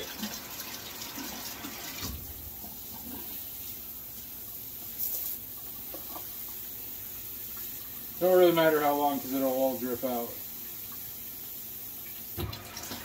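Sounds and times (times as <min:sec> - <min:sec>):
sink sprayer water spraying: 0:00.0 - 0:13.0.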